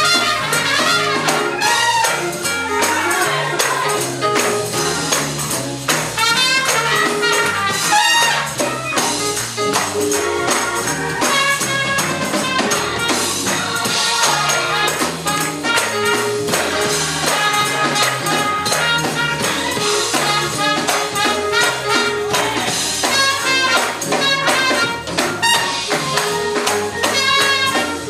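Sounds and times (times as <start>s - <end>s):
moving bass line: 0.0s - 28.0s
music with driving beat: 0.0s - 28.0s
tambourine-like shaking percussion: 0.0s - 28.0s.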